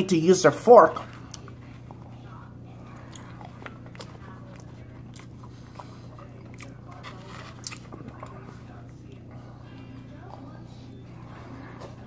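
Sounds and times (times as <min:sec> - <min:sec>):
steady low hum: 0:00.0 - 0:12.0
chewing food: 0:00.9 - 0:12.0.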